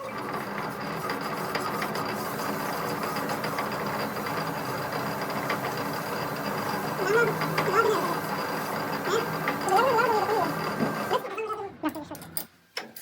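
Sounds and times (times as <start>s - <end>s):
machine running steadily: 0.1s - 12.4s.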